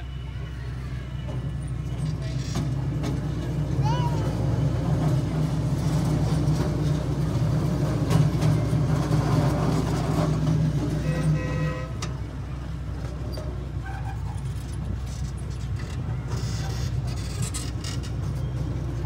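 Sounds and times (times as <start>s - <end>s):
miniature train rumbling: 0.0s - 19.0s.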